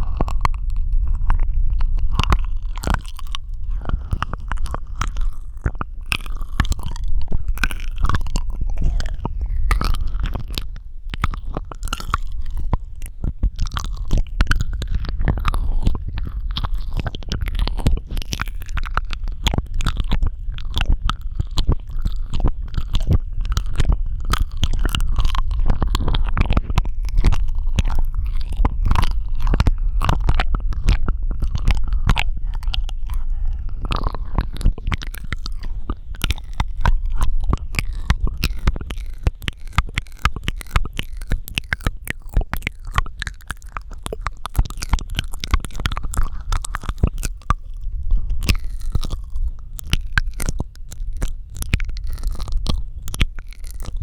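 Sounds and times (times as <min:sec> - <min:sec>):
low rumble: 0:00.0 - 0:54.0
wet mouth clicks and smacks: 0:00.0 - 0:54.0.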